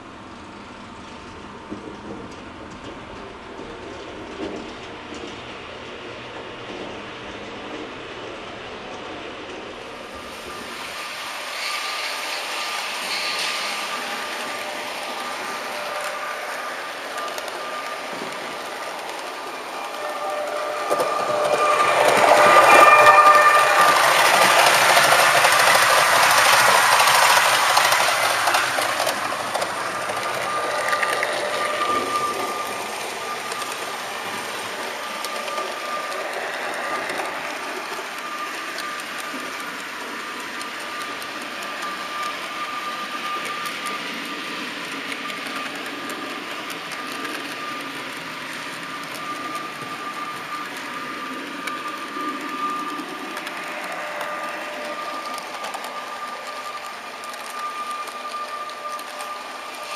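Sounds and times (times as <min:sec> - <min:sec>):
wheels rattling on rail: 0:00.0 - 0:59.9
model train motor whining: 0:10.4 - 0:59.9.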